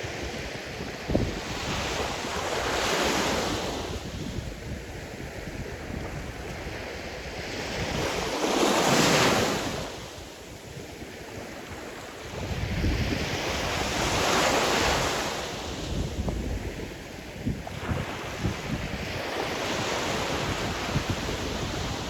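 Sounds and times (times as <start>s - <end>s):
waves breaking on shore: 0.0s - 22.0s
wind rumble on microphone: 0.0s - 22.0s.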